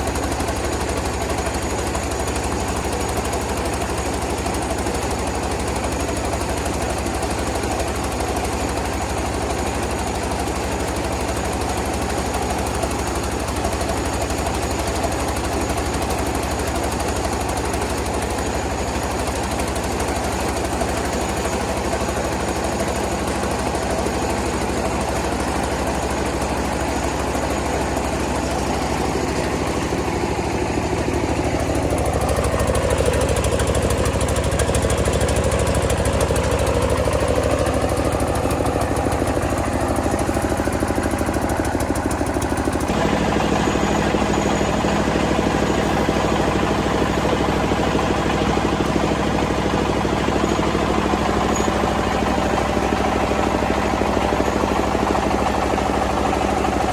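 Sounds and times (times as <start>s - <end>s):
rice milling machine running: 0.0s - 56.9s.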